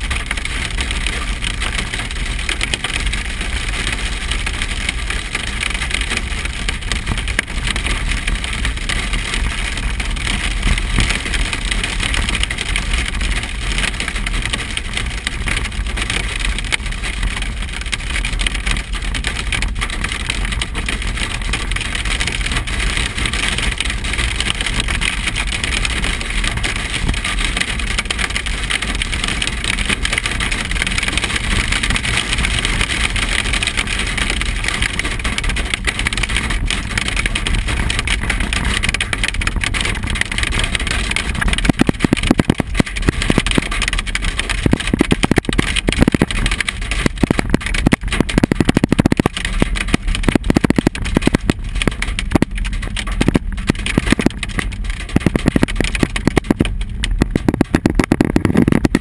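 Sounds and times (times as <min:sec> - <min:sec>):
hail and rain pelting car: 0:00.0 - 0:59.0
vehicle low rumble: 0:00.0 - 0:59.0.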